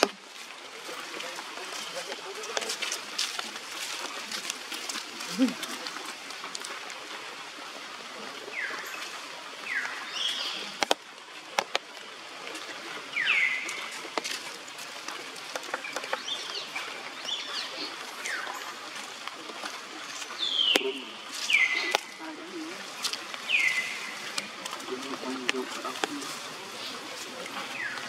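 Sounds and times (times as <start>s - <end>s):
outdoor hiss: 0.0s - 28.0s.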